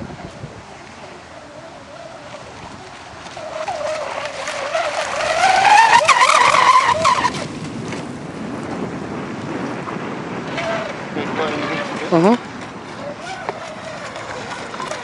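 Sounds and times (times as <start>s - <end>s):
wind noise: 0.0s - 15.0s.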